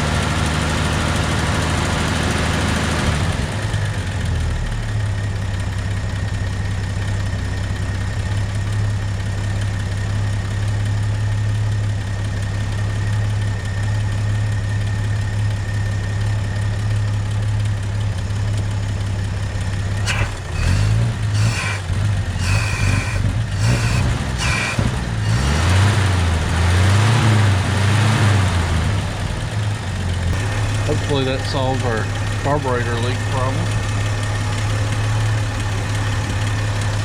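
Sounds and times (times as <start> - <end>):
truck engine idling and revving: 0.0 - 37.0.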